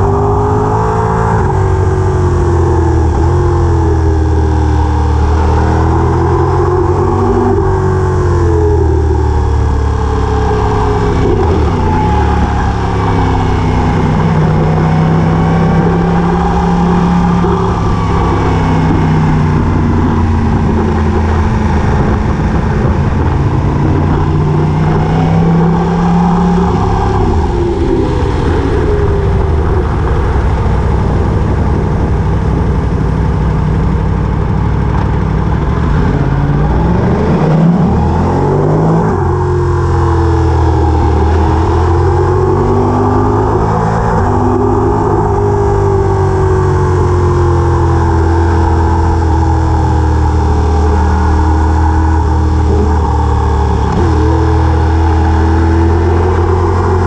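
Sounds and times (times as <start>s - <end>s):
vehicle engine running loudly: 0.0s - 57.0s.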